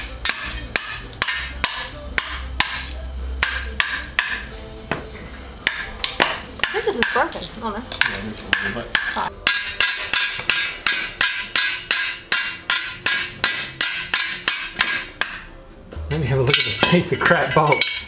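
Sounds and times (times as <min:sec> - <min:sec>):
hammer striking metal tool: 0:00.0 - 0:18.0.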